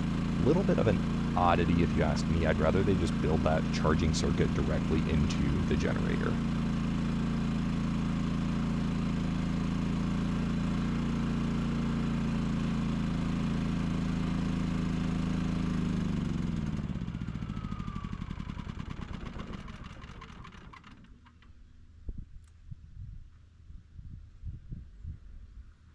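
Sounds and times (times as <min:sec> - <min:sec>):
generator engine running: 0:00.0 - 0:21.5
engine sputtering to a stop: 0:00.0 - 0:22.0.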